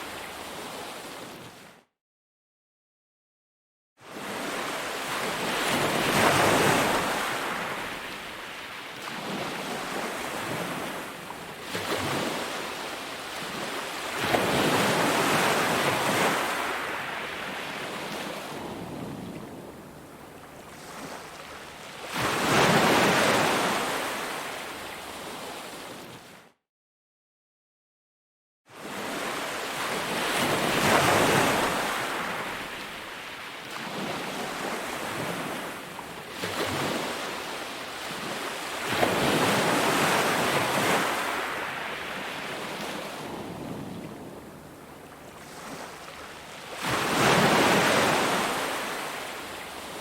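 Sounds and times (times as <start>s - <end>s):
sea waves breaking on a beach: 0.0s - 1.7s, 4.0s - 26.5s, 28.7s - 50.0s.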